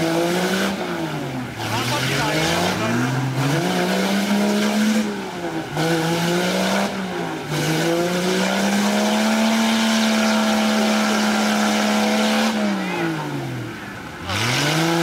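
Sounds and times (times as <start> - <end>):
engine revving in mud: 0.0 - 15.0.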